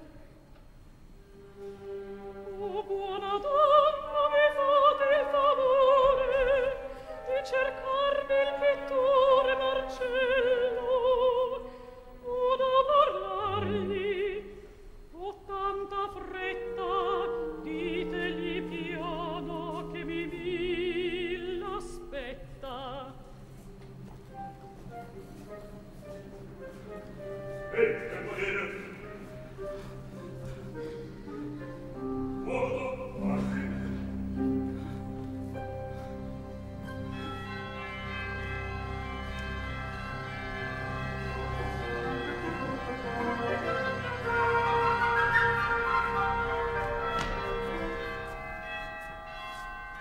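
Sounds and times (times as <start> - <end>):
quiet orchestral accompaniment: 0.0 - 50.0
operatic soprano singing: 1.4 - 24.5, 26.8 - 38.3, 40.8 - 48.4.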